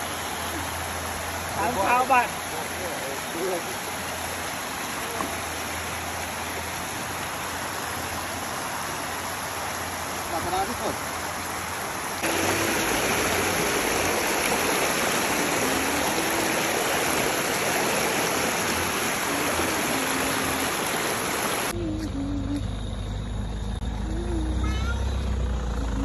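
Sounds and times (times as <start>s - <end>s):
stream water rushing over rock: 0.0s - 22.0s.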